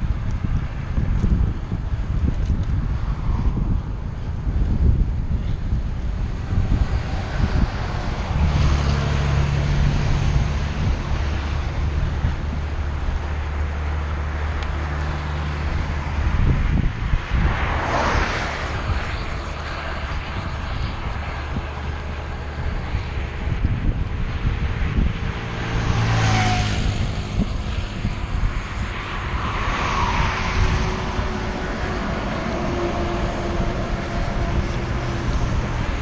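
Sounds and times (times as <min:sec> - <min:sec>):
engine low hum: 0:00.0 - 0:36.0
rush of noise: 0:00.0 - 0:36.0
wind buffeting microphone: 0:00.0 - 0:36.0.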